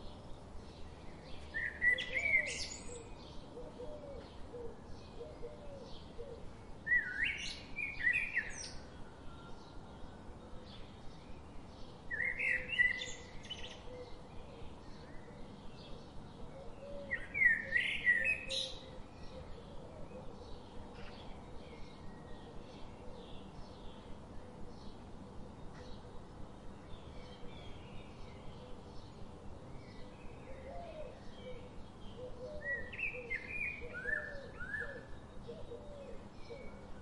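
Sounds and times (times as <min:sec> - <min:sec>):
songbird chirping: 0:00.0 - 0:37.0.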